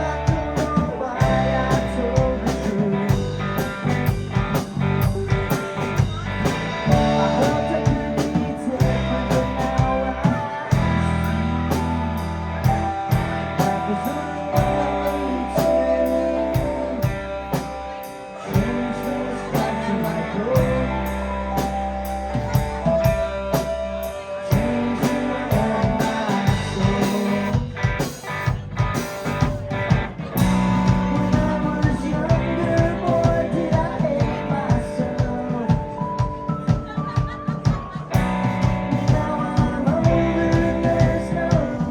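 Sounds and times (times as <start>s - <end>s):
live rock band playing: 0.0s - 41.9s.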